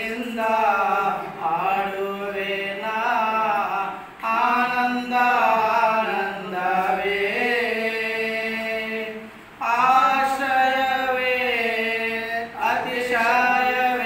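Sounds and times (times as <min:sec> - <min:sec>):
two men singing a cappella: 0:00.0 - 0:14.0.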